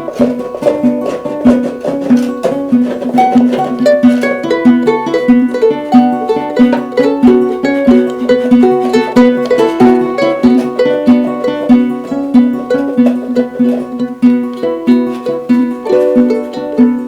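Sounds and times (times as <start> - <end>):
picked string melody: 0.0 - 17.0
strummed string rhythm: 0.0 - 17.0.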